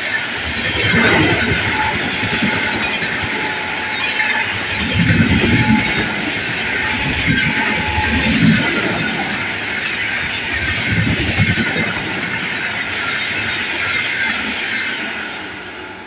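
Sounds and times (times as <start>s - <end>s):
steel wheels rushing on rails: 0.0s - 16.0s.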